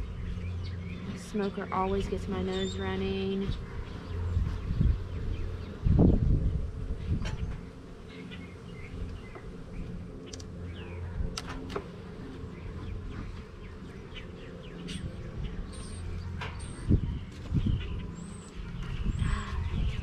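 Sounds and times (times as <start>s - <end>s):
birds chirping: 0.0s - 20.0s
honeybees buzzing: 0.0s - 20.0s.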